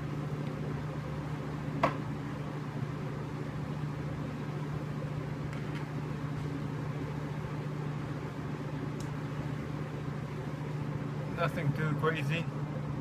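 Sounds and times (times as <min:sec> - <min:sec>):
low machine hum with hiss: 0:00.0 - 0:13.0.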